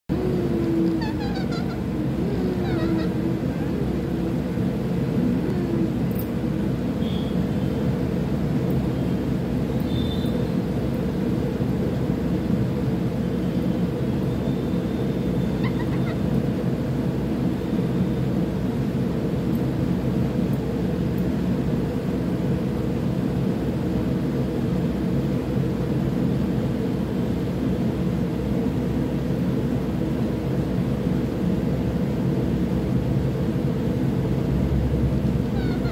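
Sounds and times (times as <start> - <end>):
low mechanical hum: 0.1 - 35.9.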